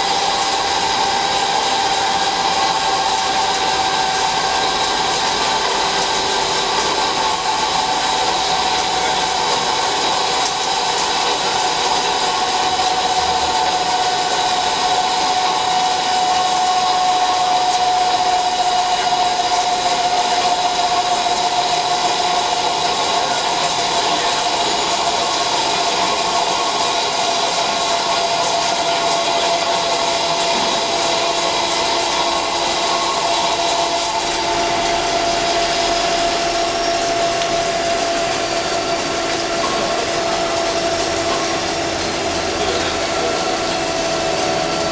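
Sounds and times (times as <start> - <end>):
continuous machine whine: 0.0 - 44.9
lathe machining: 0.0 - 44.9.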